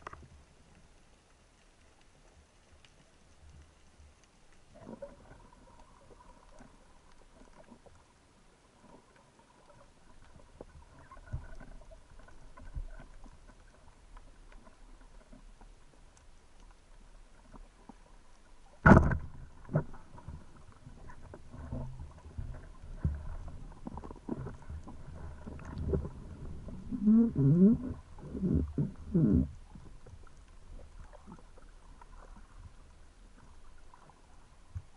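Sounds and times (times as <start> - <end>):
faint underwater ambience: 0.0 - 34.9.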